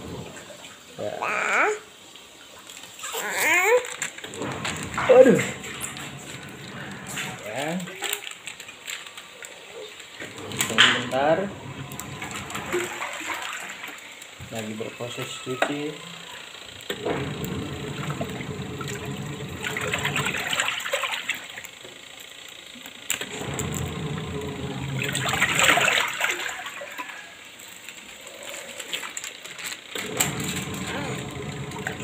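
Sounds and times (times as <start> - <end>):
water churning and sloshing: 0.0 - 21.8, 23.2 - 32.0
washing machine motor: 0.0 - 32.0.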